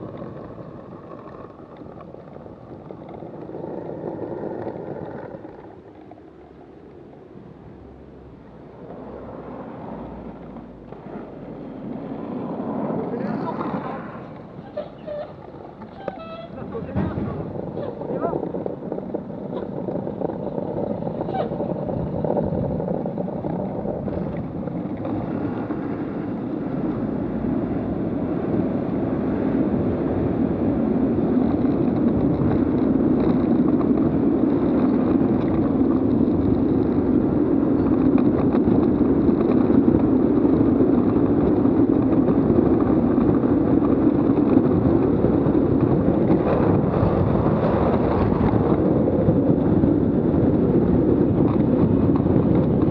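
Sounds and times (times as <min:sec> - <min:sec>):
wheels rolling on asphalt: 0:00.0 - 0:52.9
wind rushing over microphone: 0:00.0 - 0:52.9.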